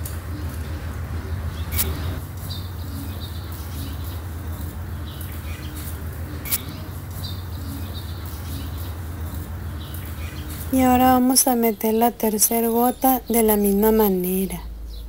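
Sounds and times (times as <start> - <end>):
faint bird chirps: 0.0 - 15.0
low background hum: 0.0 - 15.0.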